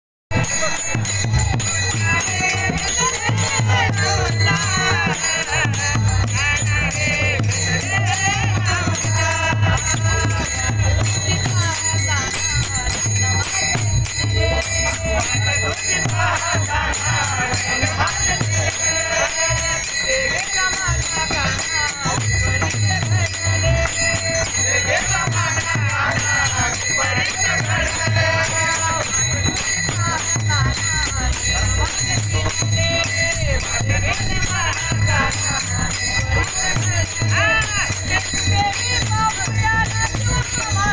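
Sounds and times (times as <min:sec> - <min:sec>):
man singing: 0:00.3 - 0:40.9
pulsing low drum: 0:00.3 - 0:40.9
small hand cymbals jingling: 0:00.3 - 0:40.9.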